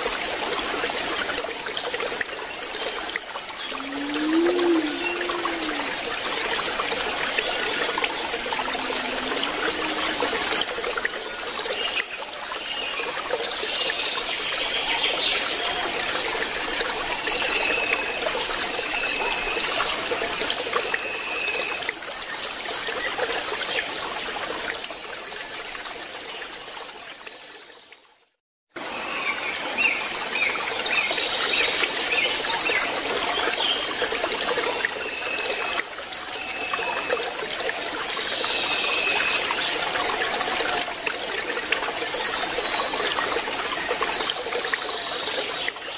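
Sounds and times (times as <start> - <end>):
water trickling: 0.0 - 28.2, 29.7 - 45.9.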